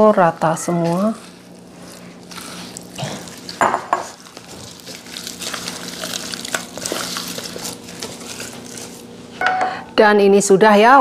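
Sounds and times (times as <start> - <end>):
wet squelching of meat: 0.1 - 9.1.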